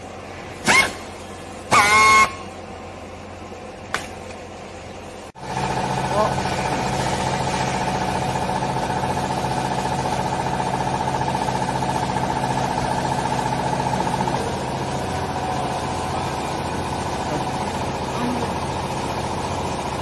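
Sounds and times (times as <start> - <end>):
hydraulic baler motor humming: 0.0 - 20.0.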